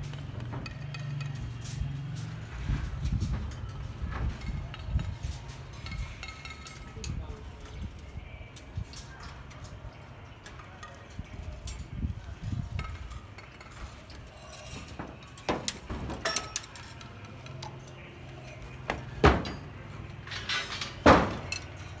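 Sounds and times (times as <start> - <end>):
metallic clinks of rebar and tools: 0.0 - 2.4, 3.5 - 12.0, 12.6 - 22.0.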